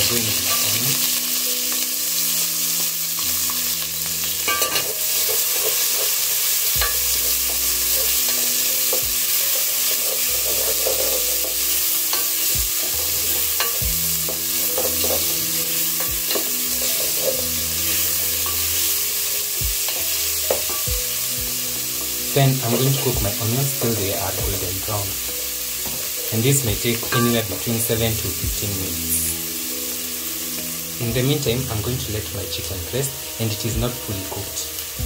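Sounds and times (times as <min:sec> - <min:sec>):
onions sizzling in hot oil: 0:00.0 - 0:35.0.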